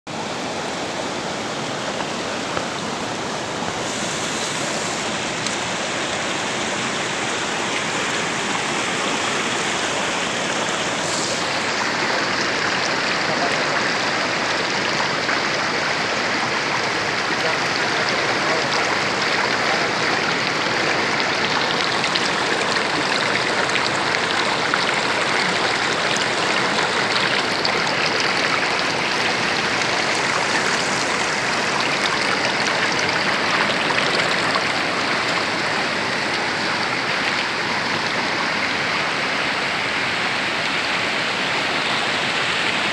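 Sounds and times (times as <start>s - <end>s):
stream rushing over rocks: 0.1s - 42.9s.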